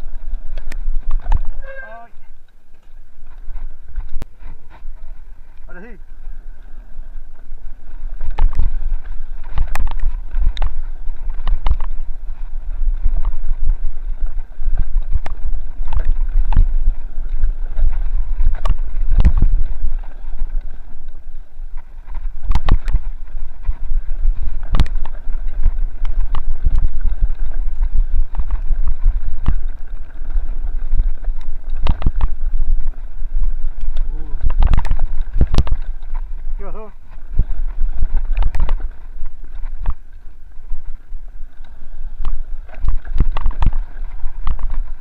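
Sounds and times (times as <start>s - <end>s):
bike knocking and rattling: 0.0s - 1.7s, 7.2s - 40.0s, 42.2s - 45.0s
wind rumble on microphone: 0.0s - 45.0s.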